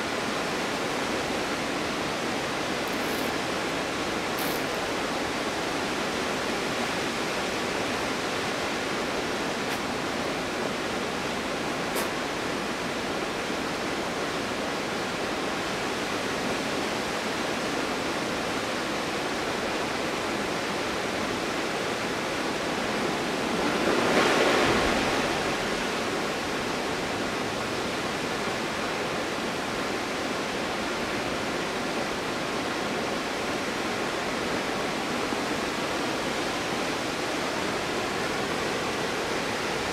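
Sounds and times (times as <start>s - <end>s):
waterfall rushing: 0.0s - 16.2s, 20.5s - 39.9s.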